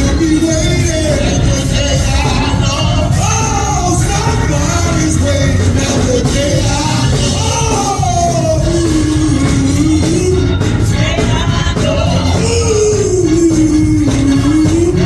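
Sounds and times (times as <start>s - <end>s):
band with heavy bass: 0.0s - 15.0s
person singing held vocal: 0.0s - 15.0s.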